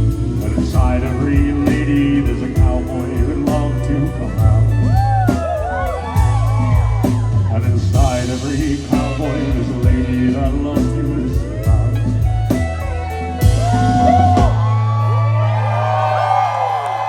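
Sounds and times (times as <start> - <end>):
live country band playing: 0.0 - 17.0.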